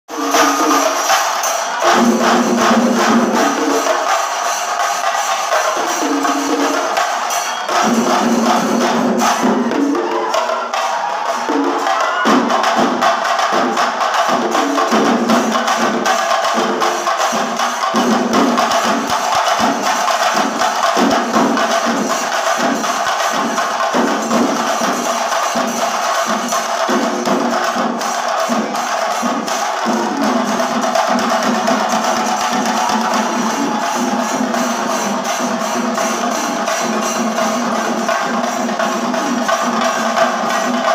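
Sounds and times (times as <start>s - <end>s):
cymbals clashing: 0.1s - 40.9s
drums beaten with sticks: 0.1s - 40.9s.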